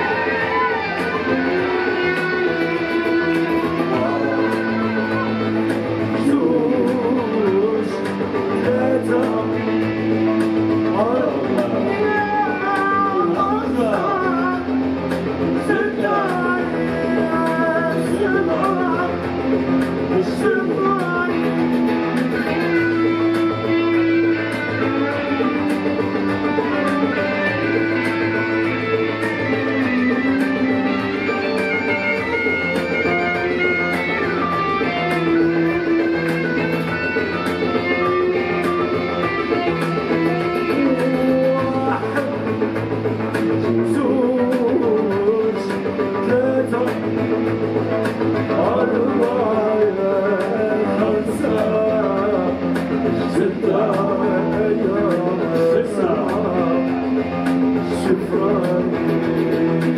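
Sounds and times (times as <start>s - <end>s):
electric guitar: 0.0s - 59.9s
keyboard chords: 0.0s - 59.9s.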